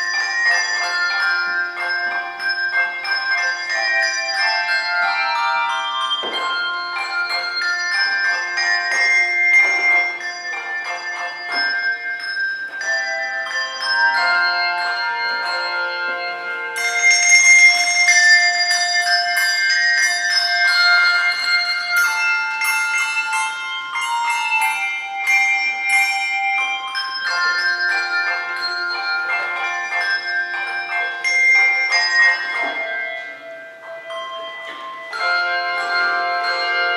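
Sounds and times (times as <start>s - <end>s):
handbell choir playing: 0.0s - 36.9s.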